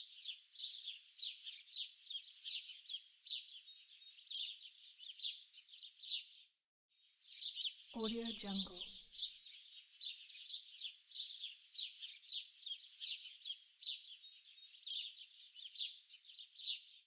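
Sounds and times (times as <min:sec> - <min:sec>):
songbirds chirping and singing: 0:00.0 - 0:06.5, 0:07.1 - 0:17.0.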